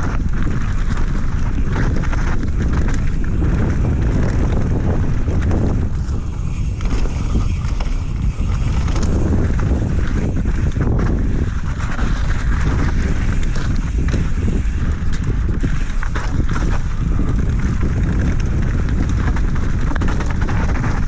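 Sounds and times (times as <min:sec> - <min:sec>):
bike rattles and clicks: 0:00.0 - 0:21.0
bike tyres rumbling over dirt: 0:00.0 - 0:21.0
wind buffeting microphone: 0:00.0 - 0:21.0.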